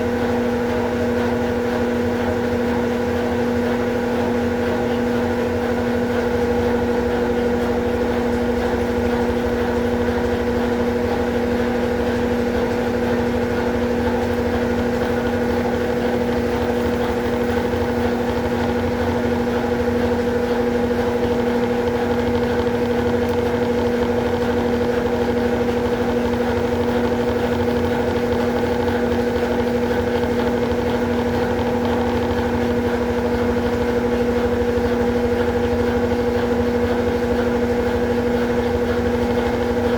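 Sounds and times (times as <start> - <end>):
washing machine hum: 0.0 - 39.9.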